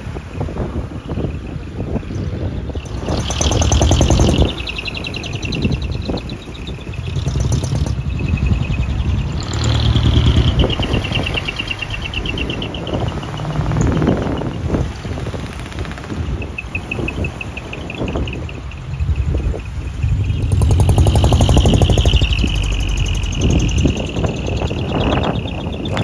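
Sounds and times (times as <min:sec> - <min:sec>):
truck engines revving: 0:00.0 - 0:26.0
high fluttering tone: 0:02.8 - 0:26.0.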